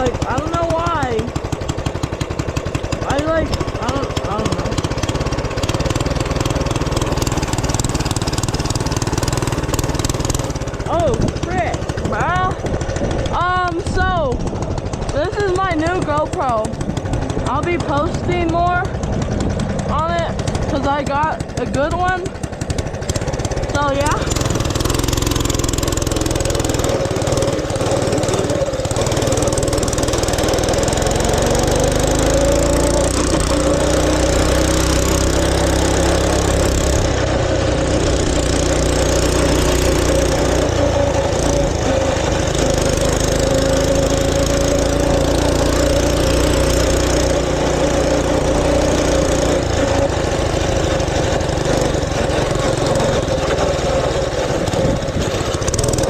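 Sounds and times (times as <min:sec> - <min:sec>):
small motorbike engine running: 0:00.0 - 0:56.0.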